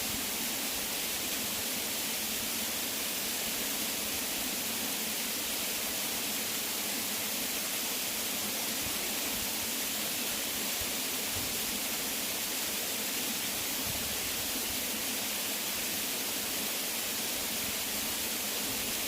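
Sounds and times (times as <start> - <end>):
waterfall pouring and splashing: 0.0 - 19.0.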